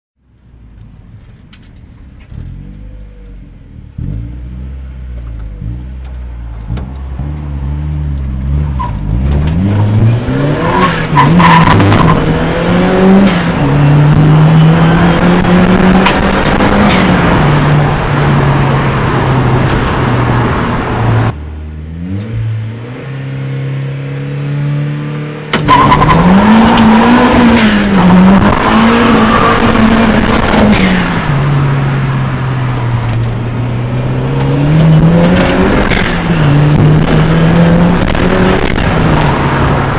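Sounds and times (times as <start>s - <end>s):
turbocharged car engine revving: 5.6s - 39.9s.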